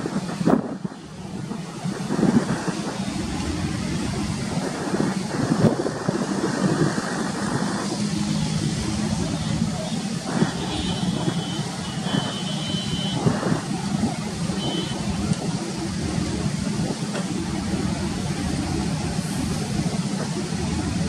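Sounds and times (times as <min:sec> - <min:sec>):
distant jet engine rumble: 0:00.0 - 0:21.0.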